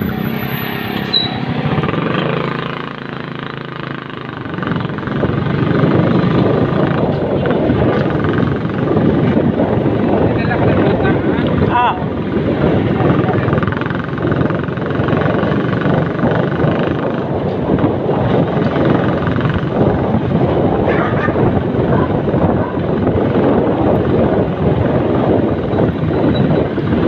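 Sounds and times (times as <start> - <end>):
road traffic: 0.0 - 27.0
wind buffeting microphone: 0.0 - 27.0.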